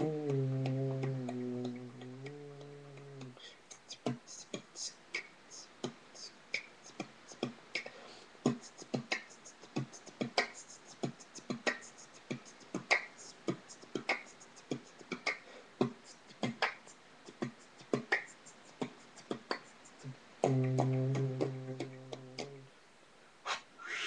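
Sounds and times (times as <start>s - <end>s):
person beatboxing: 0.0s - 22.7s, 23.5s - 24.0s.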